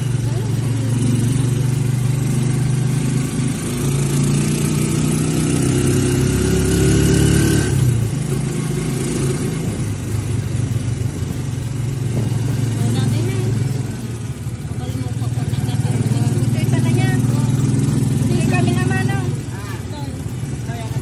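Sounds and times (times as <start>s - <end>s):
vehicle engine: 0.0s - 21.0s.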